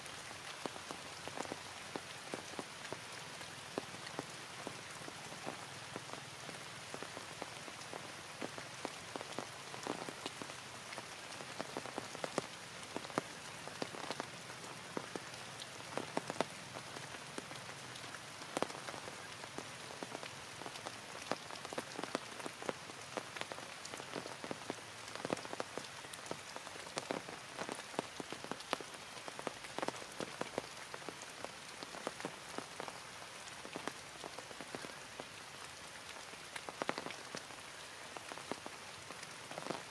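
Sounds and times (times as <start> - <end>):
heavy rain: 0.0 - 39.9
raindrops tapping: 0.4 - 39.9.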